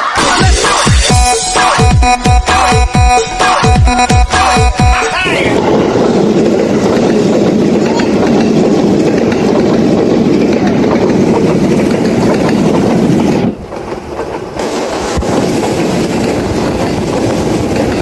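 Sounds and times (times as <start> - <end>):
train wheels rumbling on rails: 0.2 - 18.0.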